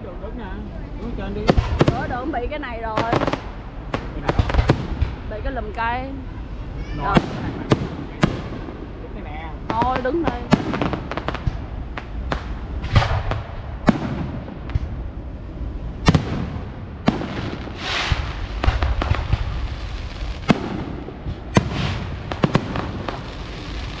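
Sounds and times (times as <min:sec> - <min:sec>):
crackling hiss: 0:00.0 - 0:24.0
low rumble: 0:00.0 - 0:24.0
fireworks bangs and cracks: 0:00.9 - 0:15.2, 0:16.0 - 0:24.0.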